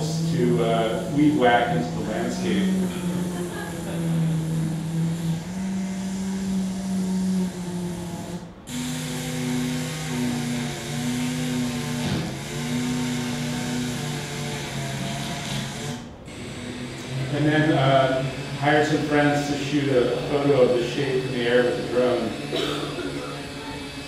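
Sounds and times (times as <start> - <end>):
buzzing motor-like hum: 0.0 - 24.0.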